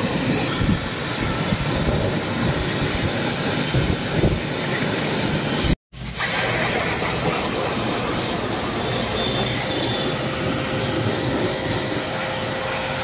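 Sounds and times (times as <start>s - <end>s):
pressure washer water jet hissing: 0.0s - 13.0s.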